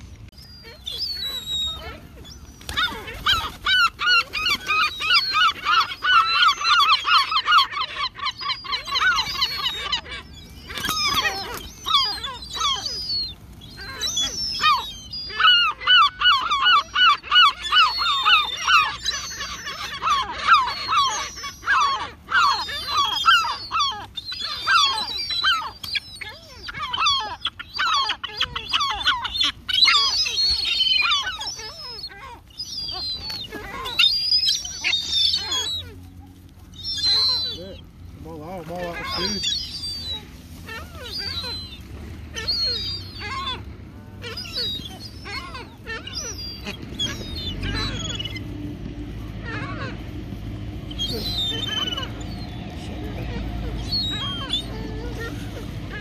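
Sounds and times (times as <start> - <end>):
geese and gulls calling: 0.0 - 56.0.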